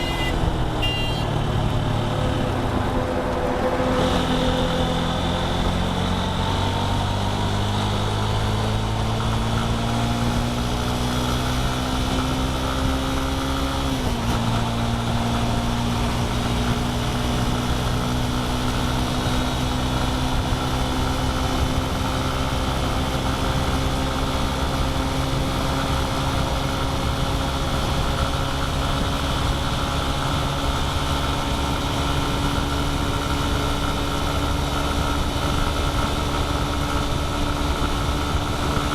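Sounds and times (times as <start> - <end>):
road and wind noise: 0.0 - 38.9
vehicle engine accelerating: 0.0 - 38.9.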